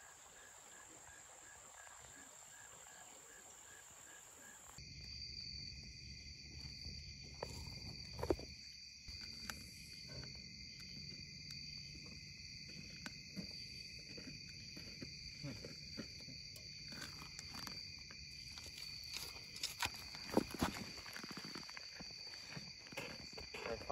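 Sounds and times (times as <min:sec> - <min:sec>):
insect chorus buzzing: 0:00.0 - 0:23.9.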